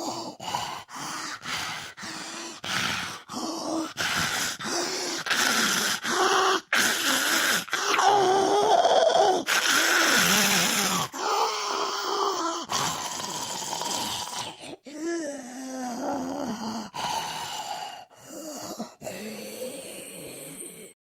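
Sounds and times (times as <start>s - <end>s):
raspy zombie moans: 0.0s - 21.0s.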